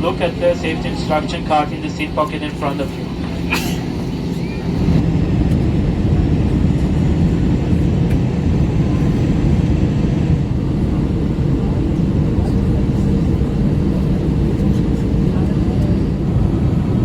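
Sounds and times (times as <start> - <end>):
engine and airflow rumble: 0.0 - 17.0.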